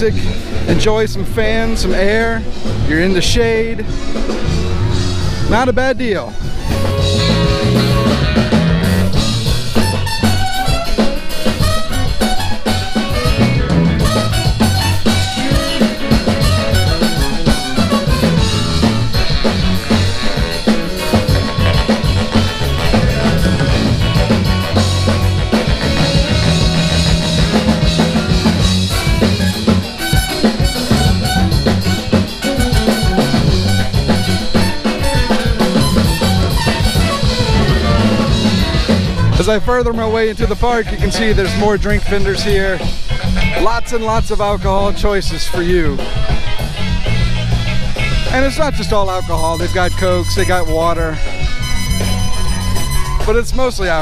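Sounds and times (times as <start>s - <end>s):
live band playing: 0.0s - 54.0s
drum kit beat: 3.8s - 54.0s.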